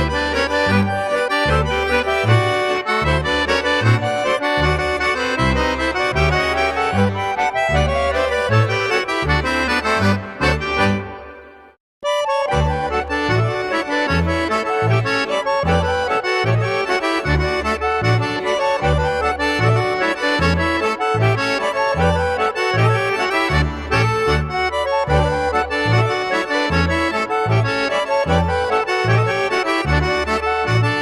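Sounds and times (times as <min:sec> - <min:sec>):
folk accordion music: 0:00.0 - 0:31.0.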